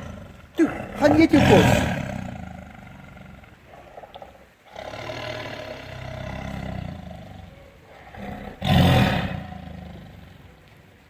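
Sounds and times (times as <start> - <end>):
tiger roaring: 0.0 - 10.6.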